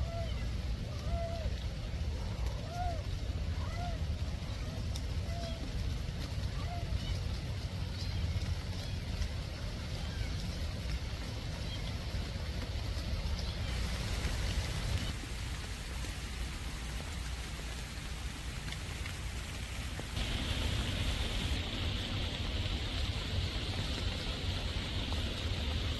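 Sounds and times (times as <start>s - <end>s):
heavy rain on leaves: 0.0s - 25.9s.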